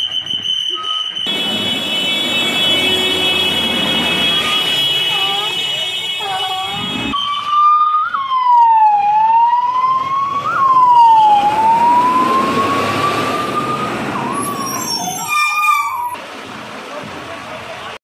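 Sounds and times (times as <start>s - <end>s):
fire engine siren wailing: 0.0s - 16.2s
siren chirp: 0.0s - 16.2s.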